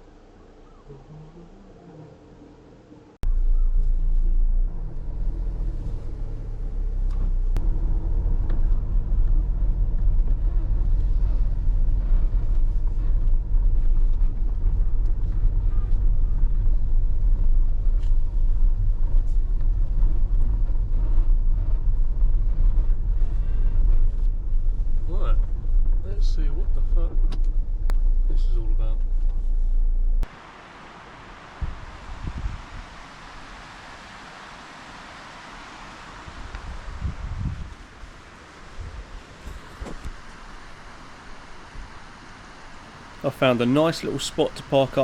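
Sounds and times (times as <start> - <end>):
road and engine rumble: 0.0 - 45.0.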